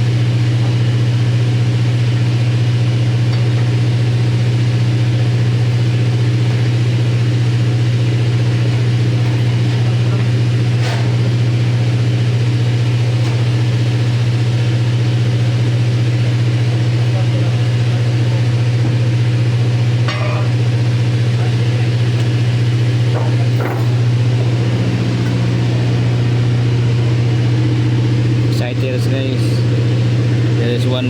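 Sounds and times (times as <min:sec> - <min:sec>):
heavy machinery droning: 0:00.0 - 0:31.0.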